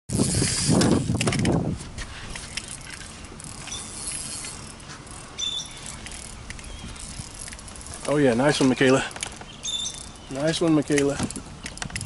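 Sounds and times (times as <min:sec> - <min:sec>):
fishing reel ratcheting clicks: 0:00.1 - 0:01.5, 0:02.4 - 0:12.0.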